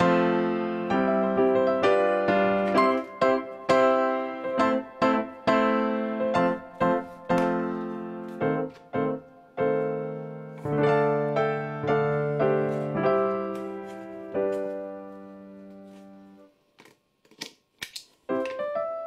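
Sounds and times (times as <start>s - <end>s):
slow electric piano tune: 0.0s - 16.5s, 18.3s - 19.0s.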